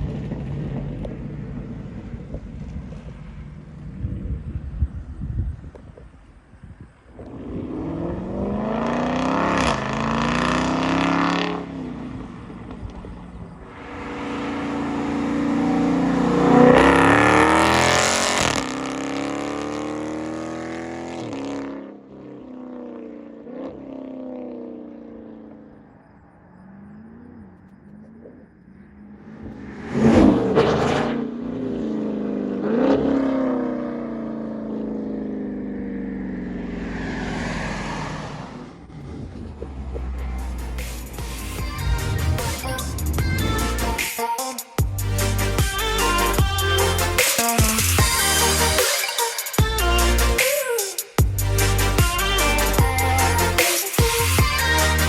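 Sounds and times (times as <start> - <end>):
car engine revving: 7.2 - 44.1, 44.9 - 48.9, 51.2 - 55.0.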